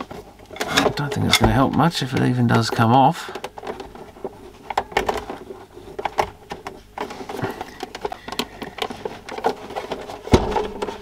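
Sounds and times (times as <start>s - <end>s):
plastic case clicking and knocking: 0.0s - 11.0s.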